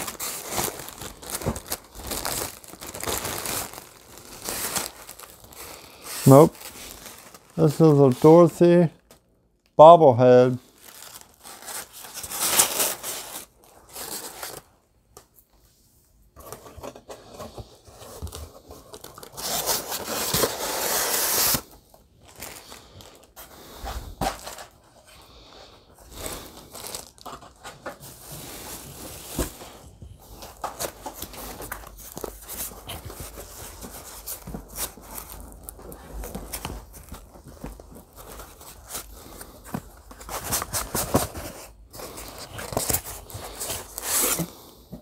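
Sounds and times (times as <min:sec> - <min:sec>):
cardboard and plastic crinkling: 0:00.0 - 0:09.3, 0:10.6 - 0:14.8, 0:16.4 - 0:25.3, 0:25.9 - 0:45.0.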